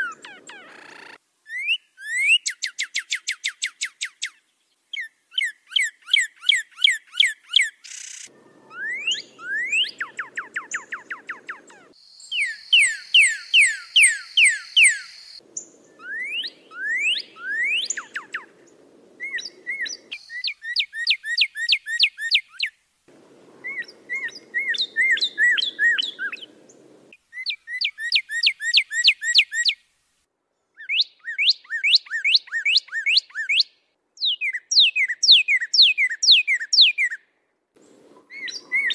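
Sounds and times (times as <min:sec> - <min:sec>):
faint background hiss: 0:00.0 - 0:32.7, 0:33.7 - 0:38.9
songbird whistling: 0:05.0 - 0:29.8, 0:30.8 - 0:37.2, 0:37.9 - 0:38.9.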